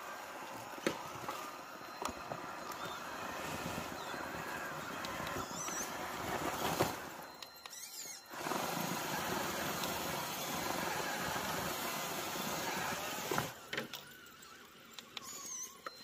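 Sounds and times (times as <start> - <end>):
rc car motor whirring: 0.0 - 16.0.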